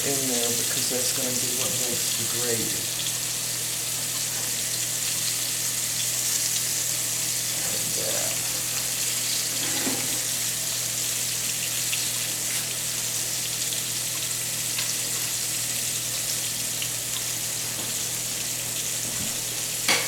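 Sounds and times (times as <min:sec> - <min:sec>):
patties sizzling in a skillet: 0:00.0 - 0:20.0.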